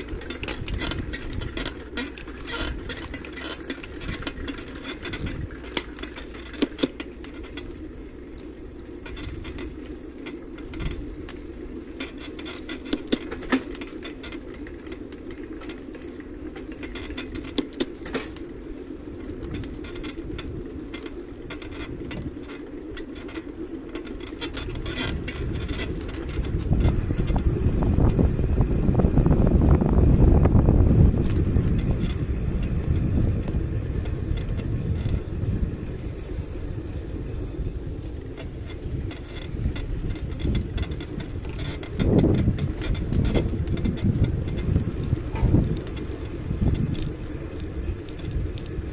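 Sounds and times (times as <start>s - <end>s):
rattling clicks over bumps: 0.0s - 48.9s
vehicle humming: 0.0s - 48.9s.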